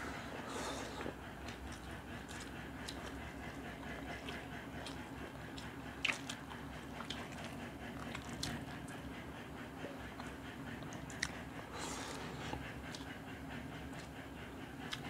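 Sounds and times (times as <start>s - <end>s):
chewing with wet mouth clicks: 1.0s - 9.2s, 10.0s - 13.2s, 13.8s - 14.2s, 14.8s - 15.0s.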